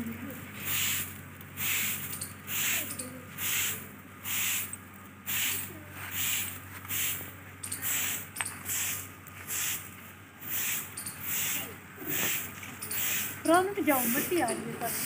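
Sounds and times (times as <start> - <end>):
broom sweeping floor: 0.5 - 15.0.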